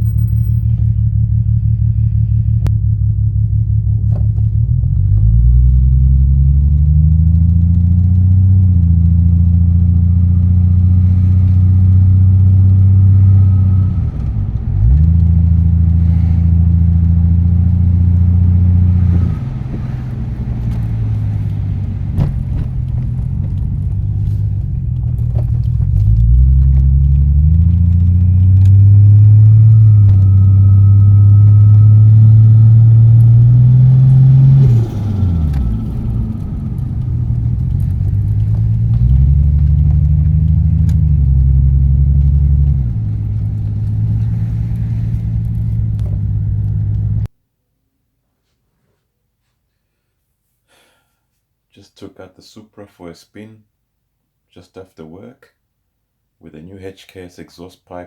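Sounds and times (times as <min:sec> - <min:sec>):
car engine revving: 0:00.0 - 0:47.3.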